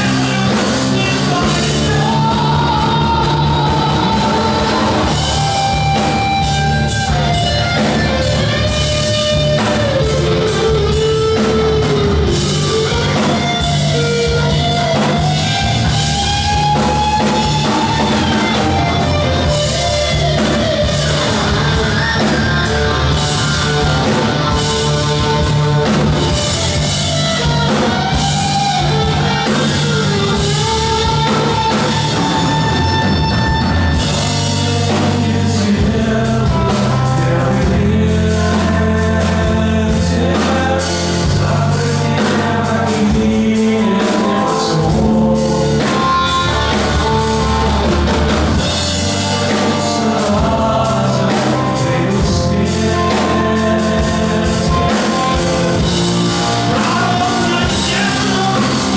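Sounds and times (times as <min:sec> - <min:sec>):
bass guitar: 0:00.0 - 0:58.9
drum kit: 0:00.0 - 0:58.9
electric guitar: 0:00.0 - 0:58.9
man singing: 0:00.0 - 0:58.9.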